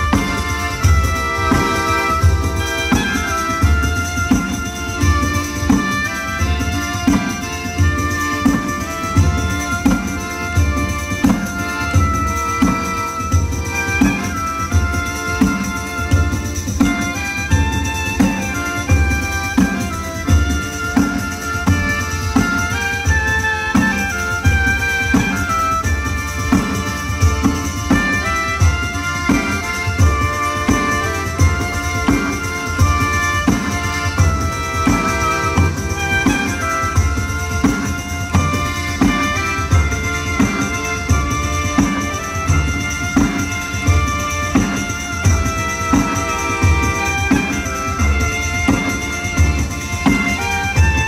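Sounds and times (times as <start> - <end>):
accordion: 0.0 - 51.0
folk melody: 0.0 - 51.0
frame drum beat: 0.0 - 51.0.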